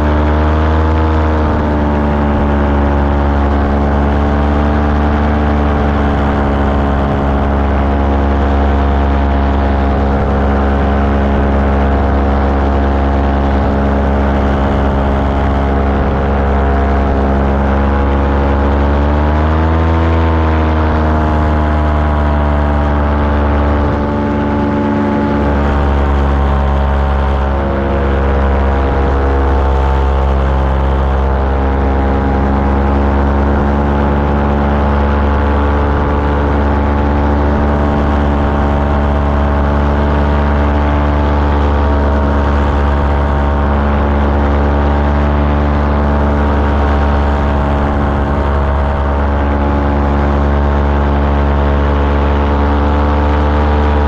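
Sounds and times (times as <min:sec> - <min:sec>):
small aircraft engine running: 0:00.0 - 0:54.0.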